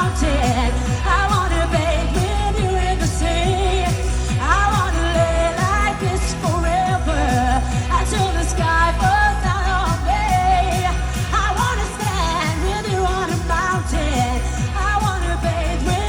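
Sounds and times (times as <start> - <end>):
sung vocal melody: 0.0 - 16.0.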